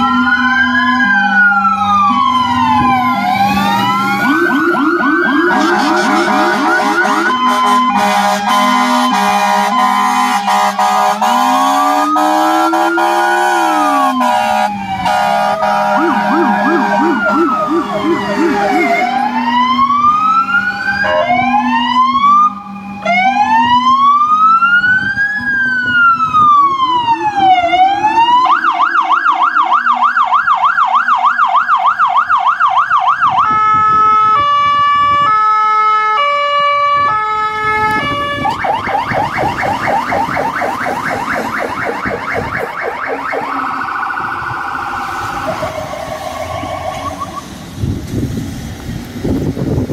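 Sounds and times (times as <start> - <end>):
fast siren warble: 0.0 - 10.0, 11.6 - 31.2, 36.9 - 47.7
two-tone hi-lo siren: 0.0 - 47.6
fire engine sirens wailing: 0.0 - 49.9.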